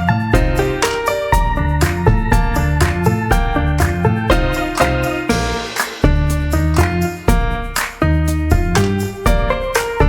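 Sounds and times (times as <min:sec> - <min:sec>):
upbeat keyboard music with beat: 0:00.0 - 0:10.0.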